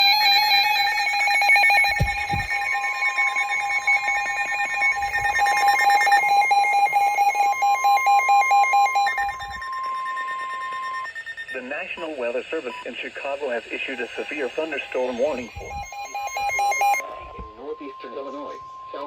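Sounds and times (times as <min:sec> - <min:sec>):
fast pulsing electronic beeps: 0:00.0 - 0:19.0
steady alarm tone: 0:00.0 - 0:19.0.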